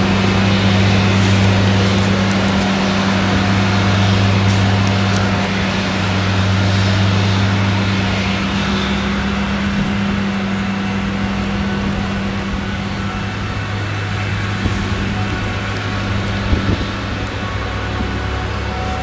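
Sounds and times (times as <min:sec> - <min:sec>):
chopper hissing: 0:00.0 - 0:18.9
deep engine hum: 0:00.0 - 0:19.0
tractor engine running: 0:00.0 - 0:19.0.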